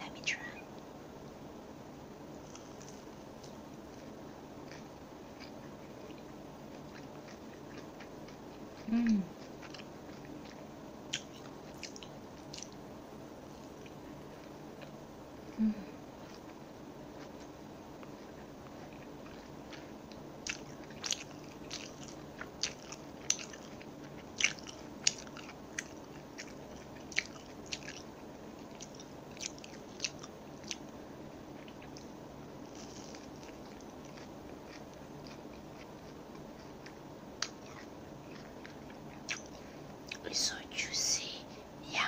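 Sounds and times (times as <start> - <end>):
faint steady hiss: 0.0 - 42.0
crunchy chewing: 2.3 - 15.6, 16.2 - 40.2.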